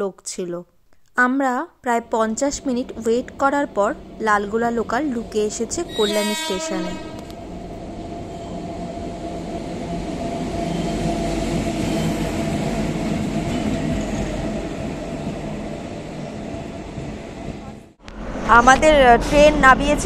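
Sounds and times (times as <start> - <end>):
train rumbling and humming: 1.9 - 20.0.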